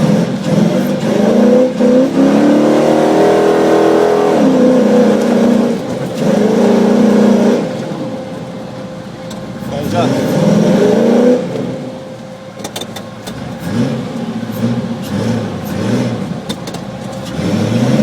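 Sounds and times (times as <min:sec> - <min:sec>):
engine revving under load: 0:00.0 - 0:18.0.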